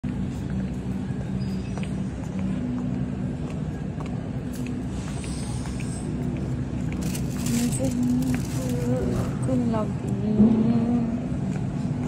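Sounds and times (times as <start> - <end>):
supermarket background rumble: 0.0 - 12.0.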